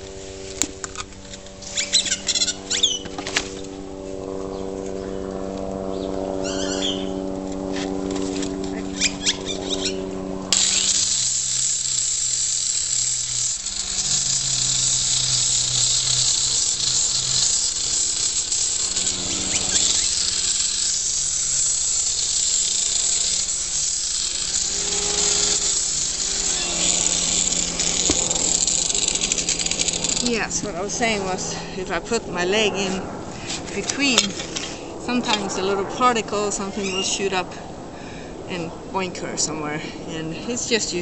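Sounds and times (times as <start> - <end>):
electric grinder sanding hoof: 0.0 - 35.7.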